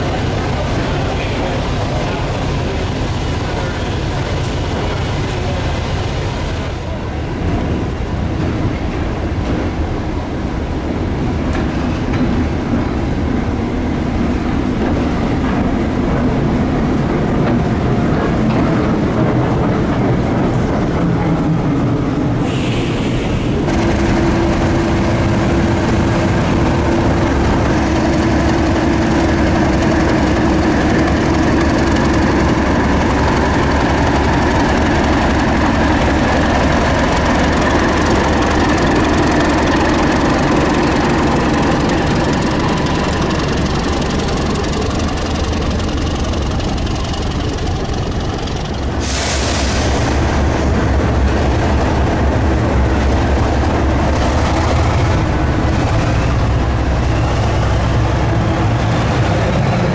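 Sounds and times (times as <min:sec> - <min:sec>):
diesel locomotive engine: 0:00.0 - 0:59.9
train noise on rails: 0:00.0 - 0:59.9.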